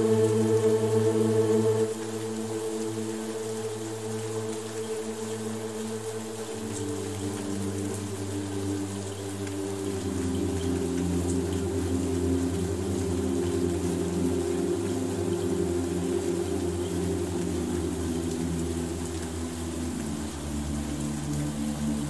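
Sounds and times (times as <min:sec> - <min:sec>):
low drone chords: 0:00.0 - 0:22.0
rain hiss: 0:00.0 - 0:22.0.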